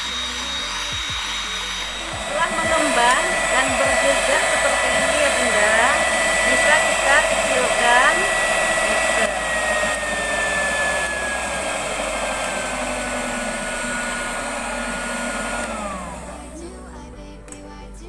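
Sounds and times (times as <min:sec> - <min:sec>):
electric hand mixer whining: 0:00.0 - 0:17.0.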